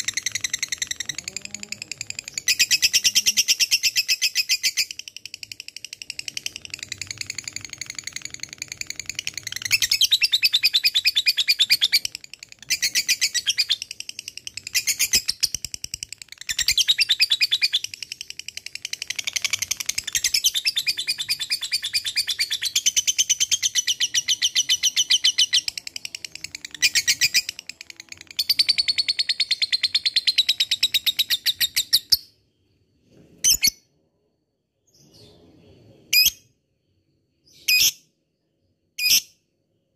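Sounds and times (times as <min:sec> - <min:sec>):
bird chattering trill: 0:00.0 - 0:32.2.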